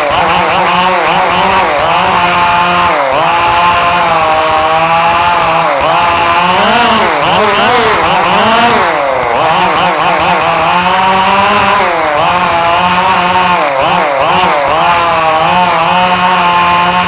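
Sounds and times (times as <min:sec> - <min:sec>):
small engines revving: 0:00.0 - 0:17.0.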